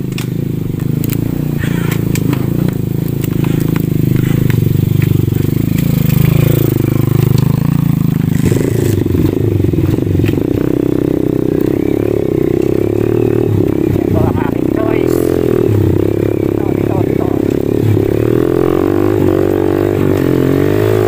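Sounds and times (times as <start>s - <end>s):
motorcycle engine running under load: 0.0s - 21.0s.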